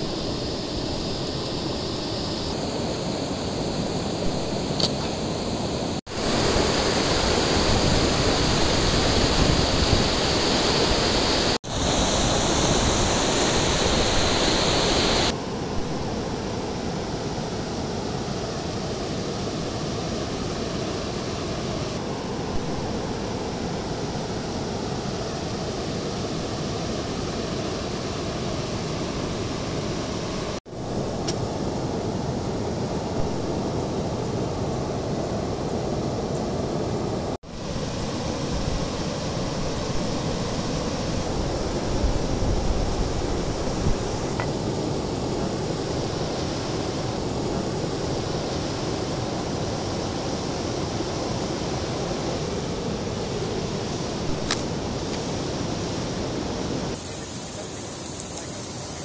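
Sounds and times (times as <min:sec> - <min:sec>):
river rapids and waterfall: 0:00.0 - 0:59.0.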